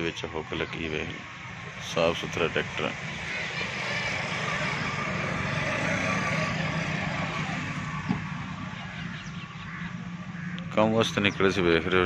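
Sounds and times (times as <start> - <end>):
vehicle engine running: 1.2 - 12.0.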